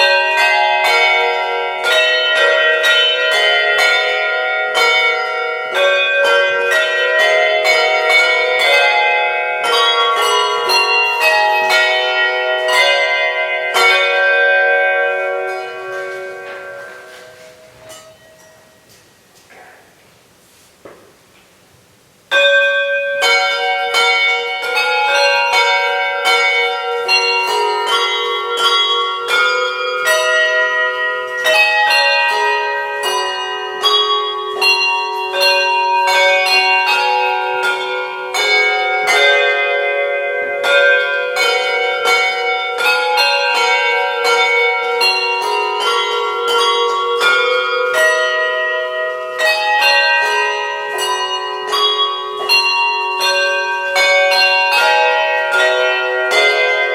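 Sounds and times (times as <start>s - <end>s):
handbells ringing a carol: 0.0s - 19.2s, 22.3s - 56.9s.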